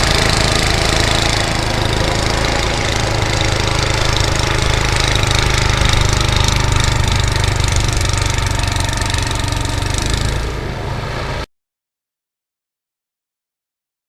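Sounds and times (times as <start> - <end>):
snowblower engine running: 0.0 - 11.5.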